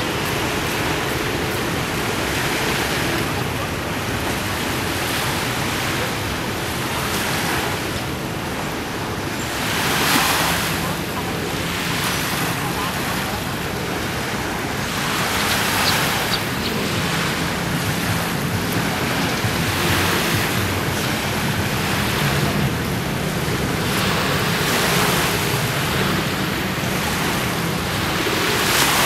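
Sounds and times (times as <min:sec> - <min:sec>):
waves washing onto sand: 0:00.0 - 0:29.0
wind on microphone: 0:00.0 - 0:29.0.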